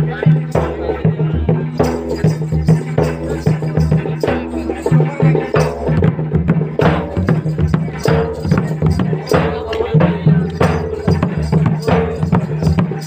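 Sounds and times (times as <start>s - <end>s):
barrel drum fast rhythm: 0.0s - 13.0s.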